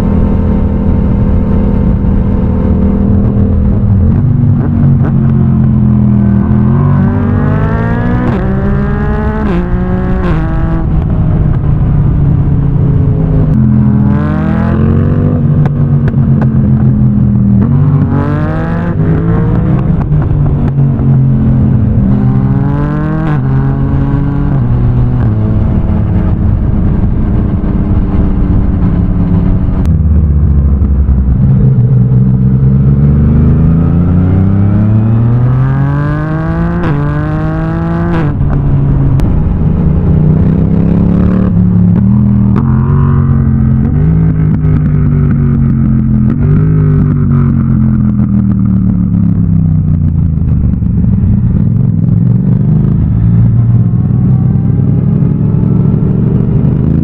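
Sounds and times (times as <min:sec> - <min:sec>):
motorcycle accelerating through gears: 0:00.0 - 0:57.0.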